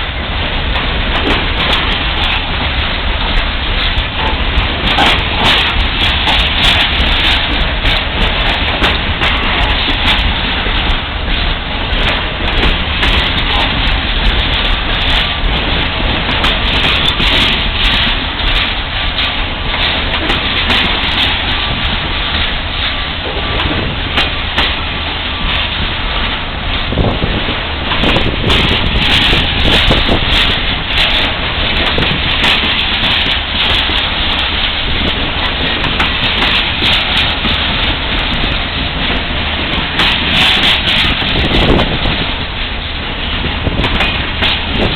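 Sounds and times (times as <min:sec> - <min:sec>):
steel wheels rushing on rail: 0:00.0 - 0:44.9.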